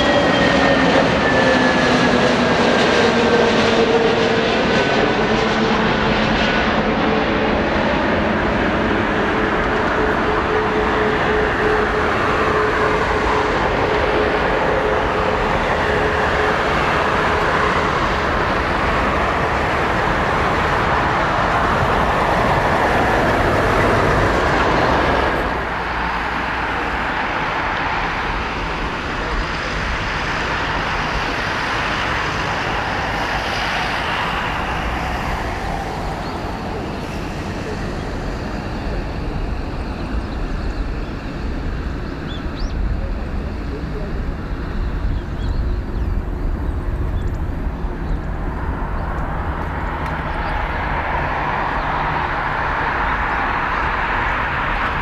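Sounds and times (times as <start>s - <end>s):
jet engines of landing airliner: 0.0s - 55.0s.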